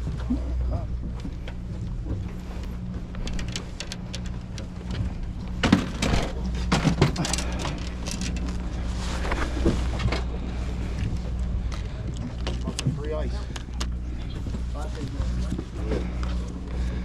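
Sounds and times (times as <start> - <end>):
gear knocking and clattering: 0.0 - 16.6
boat engine humming: 0.0 - 17.0.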